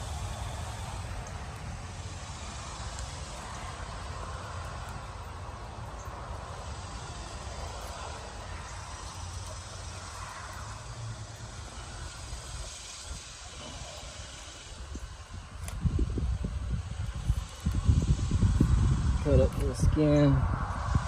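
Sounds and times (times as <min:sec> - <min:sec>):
faint hiss: 0:00.0 - 0:21.0.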